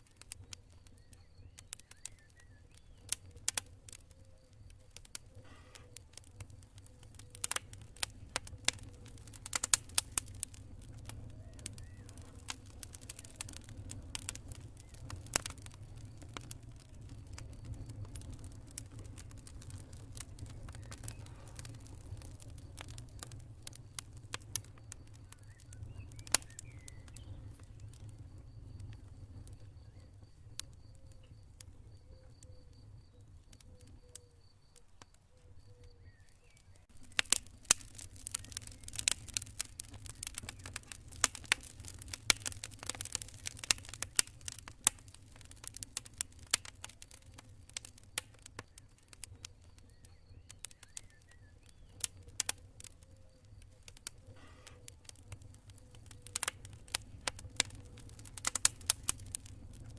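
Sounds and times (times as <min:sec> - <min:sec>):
campfire crackling and popping: 0:00.0 - 0:59.9
fire low rumble: 0:00.0 - 0:59.9
cricket chirping: 0:10.3 - 0:42.5, 0:43.2 - 0:58.9.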